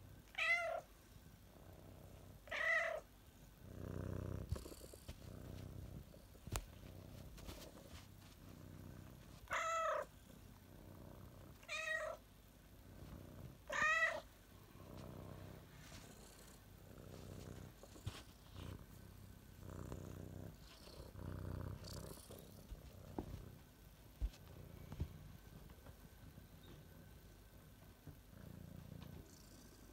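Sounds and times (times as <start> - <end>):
cat purring: 1.4 - 29.9.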